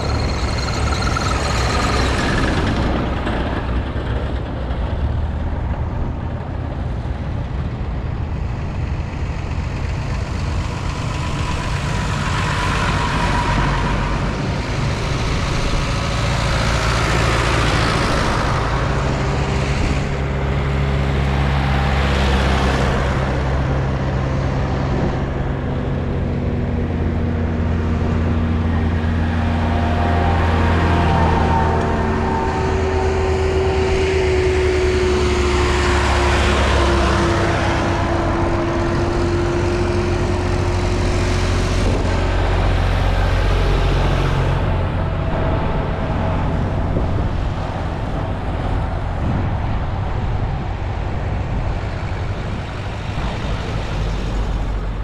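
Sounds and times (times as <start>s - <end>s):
steady low engine hum: 0.0s - 55.0s
tractors driving past: 0.0s - 55.0s.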